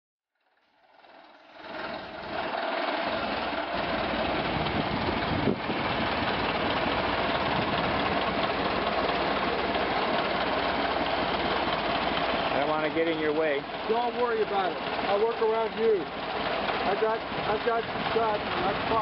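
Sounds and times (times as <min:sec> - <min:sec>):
car engine running: 0:00.4 - 0:19.0.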